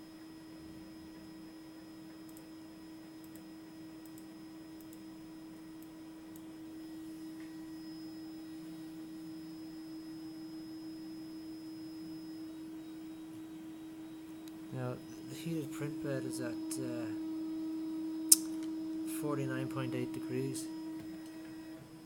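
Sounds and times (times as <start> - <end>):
three d printer electrical hum: 0.0 - 22.0.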